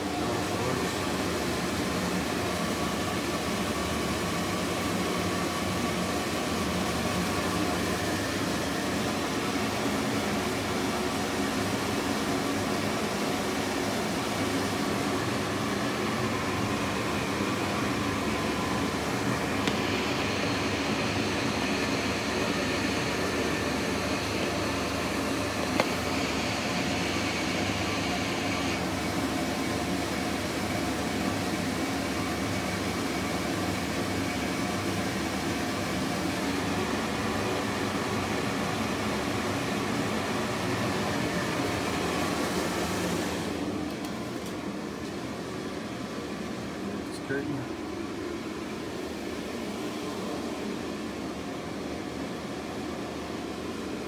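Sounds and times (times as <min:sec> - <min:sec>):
ceiling exhaust fan running: 0:00.0 - 0:54.0.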